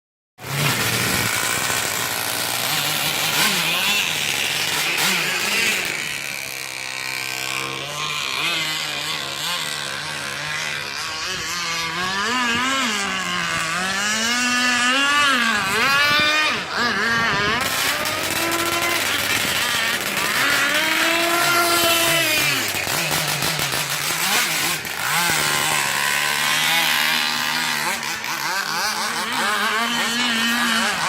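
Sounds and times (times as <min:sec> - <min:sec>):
model boat engine buzzing: 0:00.4 - 0:31.0.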